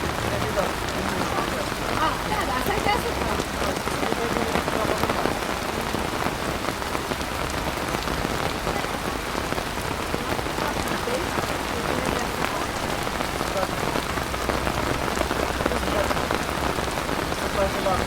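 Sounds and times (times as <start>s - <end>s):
rain on a hard surface: 0.0s - 18.0s.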